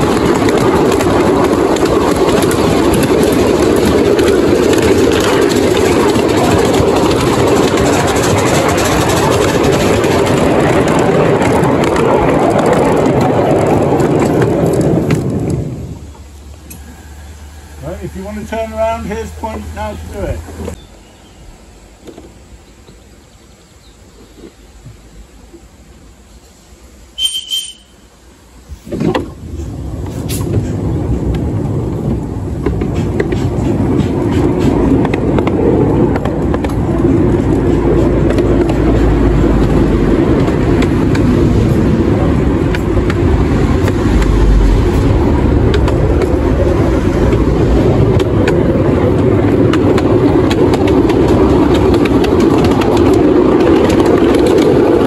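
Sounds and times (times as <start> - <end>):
miniature train rumbling on track: 0.0 - 55.0.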